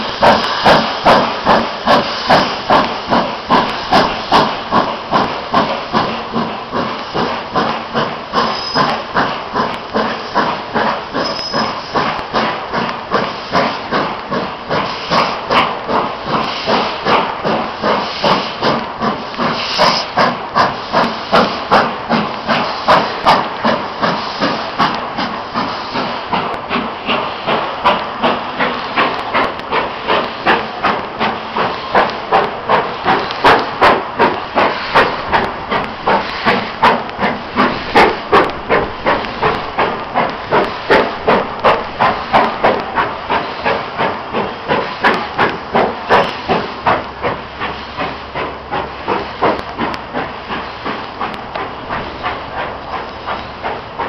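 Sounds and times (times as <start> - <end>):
steady steam hiss: 0.0 - 54.0
steam locomotive exhaust beats: 0.0 - 54.0.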